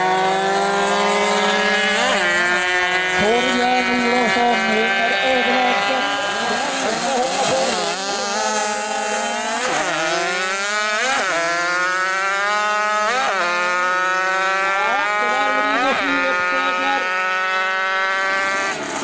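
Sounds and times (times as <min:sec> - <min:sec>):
racing mopeds accelerating: 0:00.0 - 0:19.0.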